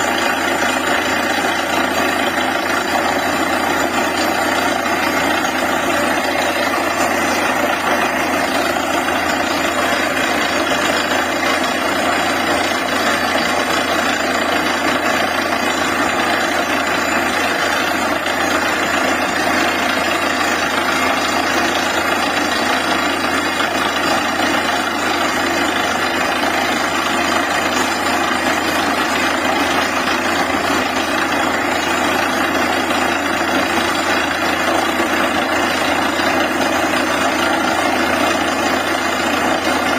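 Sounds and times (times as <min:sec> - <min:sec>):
drilling rig running: 0:00.0 - 0:39.9.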